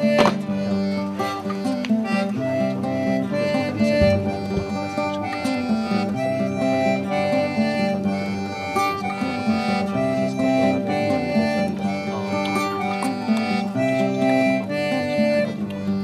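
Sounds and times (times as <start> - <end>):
background music melody: 0.0 - 16.0.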